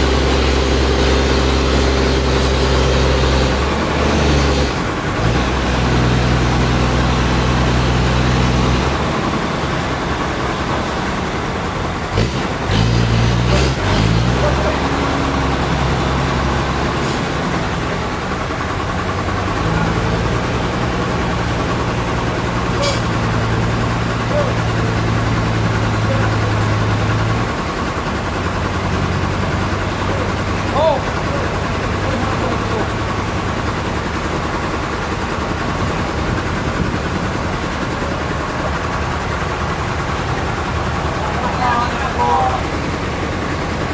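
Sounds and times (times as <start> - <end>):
heavy machinery engine hum: 0.0 - 43.9.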